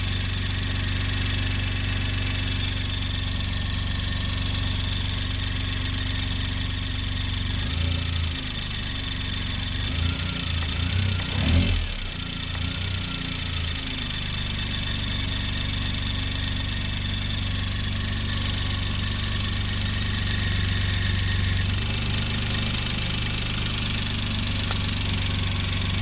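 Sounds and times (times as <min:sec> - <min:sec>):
car engine idling: 0:00.0 - 0:26.0
drive belt squealing: 0:00.0 - 0:26.0.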